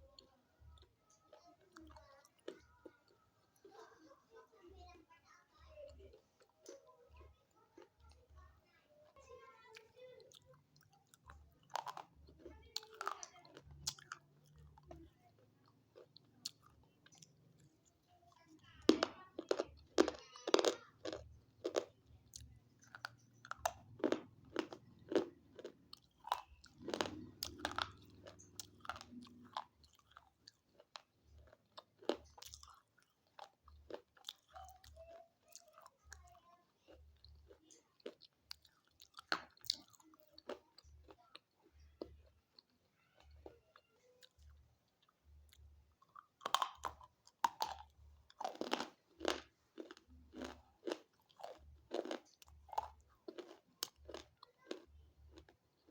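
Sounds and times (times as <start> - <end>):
chewing hard chalky pieces: 0.1 - 4.6, 9.2 - 55.9.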